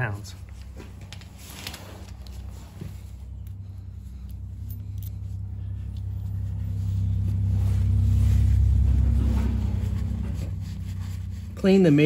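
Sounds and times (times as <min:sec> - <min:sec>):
engine rumble with hum: 0:00.0 - 0:12.0.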